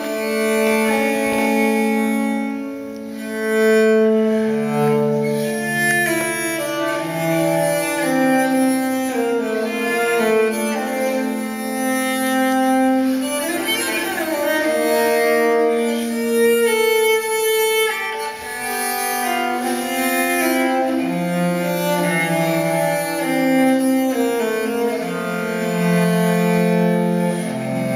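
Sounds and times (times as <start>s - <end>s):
violin and cello music: 0.0s - 27.9s.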